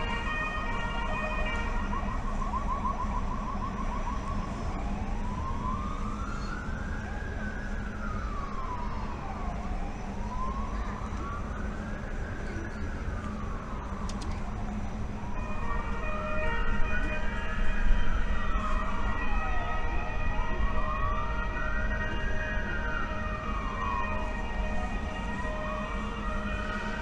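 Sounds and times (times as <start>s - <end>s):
emergency vehicle siren: 0.0s - 27.0s.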